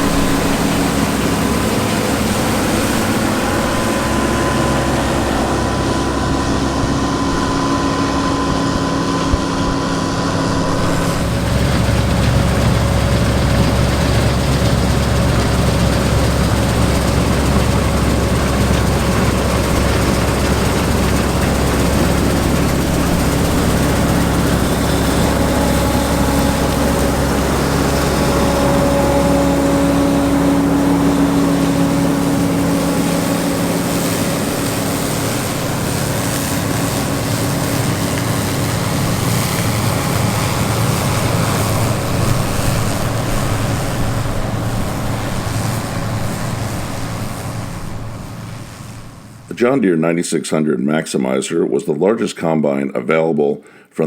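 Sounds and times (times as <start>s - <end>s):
diesel engines running: 0.0s - 49.7s.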